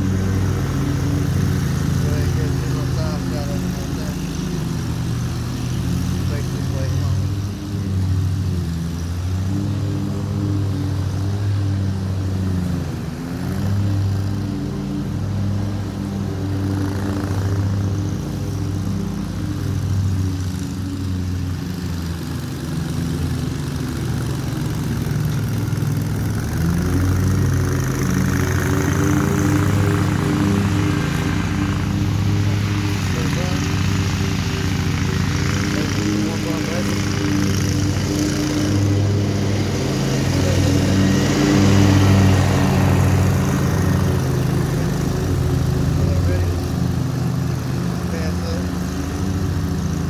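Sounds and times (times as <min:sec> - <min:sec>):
lawn mower engine running: 0:00.0 - 0:50.0.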